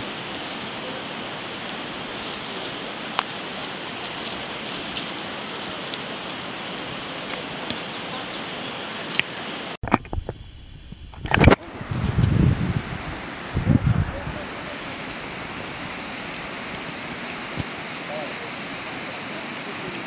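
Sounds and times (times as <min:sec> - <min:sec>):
rushing outdoor hiss: 0:00.0 - 0:20.0.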